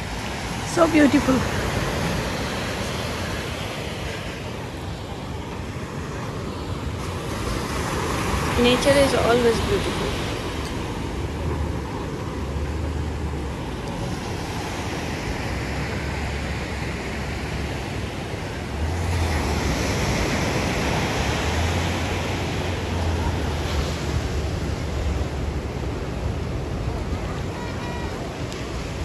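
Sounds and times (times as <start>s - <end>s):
ocean surf breaking on beach: 0.0s - 29.0s.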